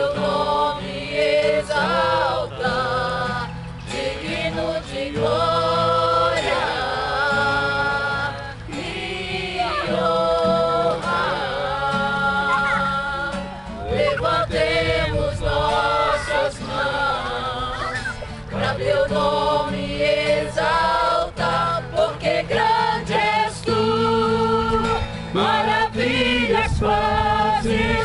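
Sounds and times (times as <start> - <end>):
acoustic guitar: 0.0 - 28.0
group singing a slow hymn: 0.0 - 28.0.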